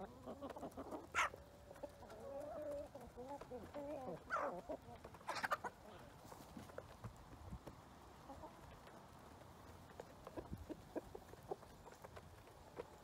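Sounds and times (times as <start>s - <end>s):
chicken clucking: 0.0s - 13.0s.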